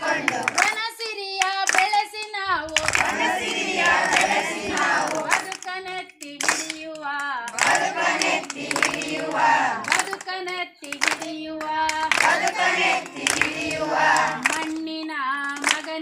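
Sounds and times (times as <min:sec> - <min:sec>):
group of voices singing: 0:00.0 - 0:00.8, 0:02.4 - 0:14.8
hand clapping: 0:00.0 - 0:16.0.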